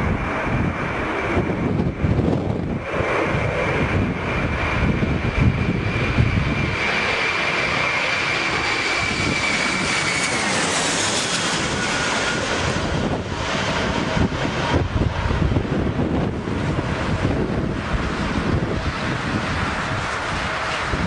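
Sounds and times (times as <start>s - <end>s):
jet engines whining and rumbling: 0.0s - 21.0s
wind buffeting microphone: 0.0s - 21.0s.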